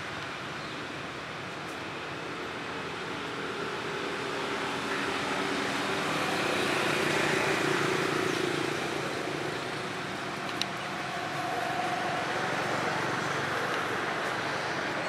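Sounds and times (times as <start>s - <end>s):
vehicle passing by: 2.9s - 15.0s.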